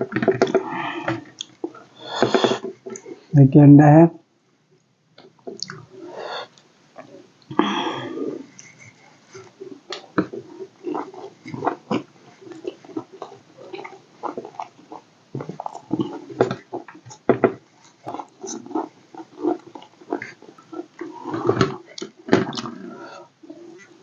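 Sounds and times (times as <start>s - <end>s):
person chewing with open mouth: 0.0s - 3.3s, 5.2s - 24.0s.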